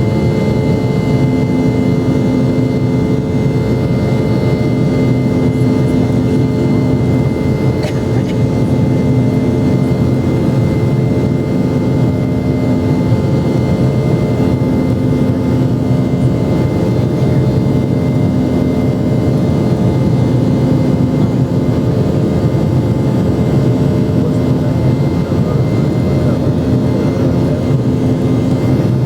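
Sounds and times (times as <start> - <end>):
jet engine cabin drone: 0.0 - 29.0.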